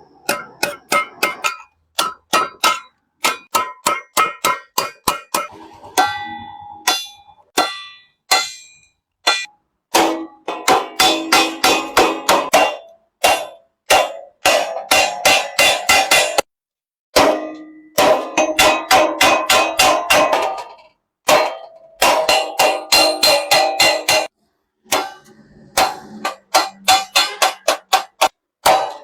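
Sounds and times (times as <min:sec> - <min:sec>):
hammer striking sheet metal: 0:00.0 - 0:16.5, 0:17.2 - 0:29.0.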